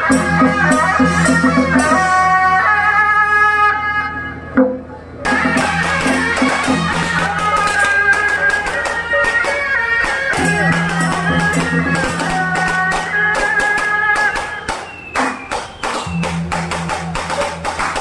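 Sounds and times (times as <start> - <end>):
drums and cymbals: 0.0 - 2.6, 5.3 - 18.0
shrill wind instrument melody: 0.0 - 4.6, 5.2 - 18.0.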